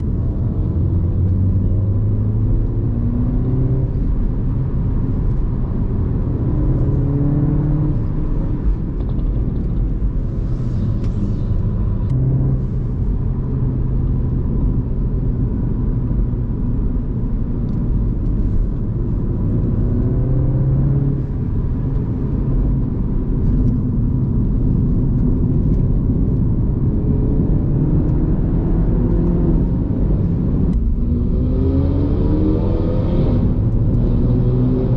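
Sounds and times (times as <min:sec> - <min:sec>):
car engine accelerating: 0:00.0 - 0:34.9
low rumble: 0:00.0 - 0:34.9.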